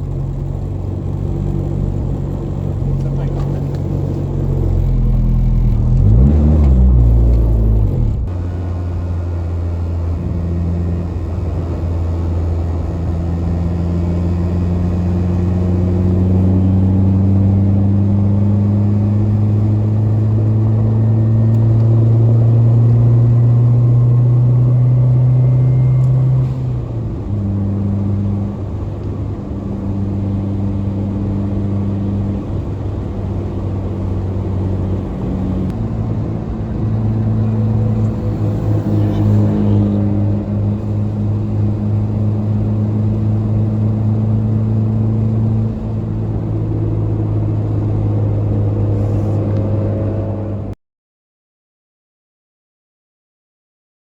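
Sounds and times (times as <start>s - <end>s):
car engine running: 0.0s - 50.7s.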